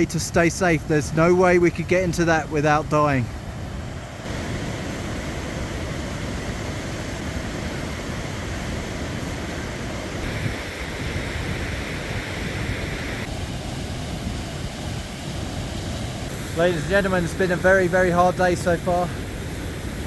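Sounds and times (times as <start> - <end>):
creek rushing: 0.0 - 20.0.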